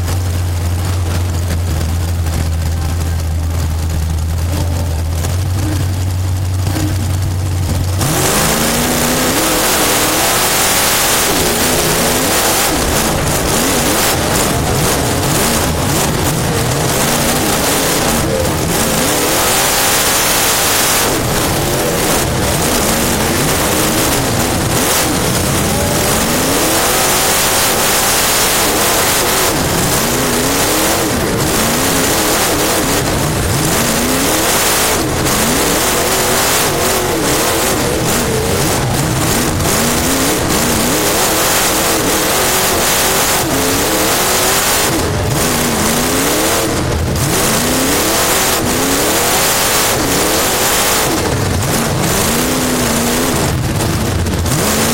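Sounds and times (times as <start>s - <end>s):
race car engine revving: 0.0s - 54.9s
wind and road noise: 0.0s - 54.9s.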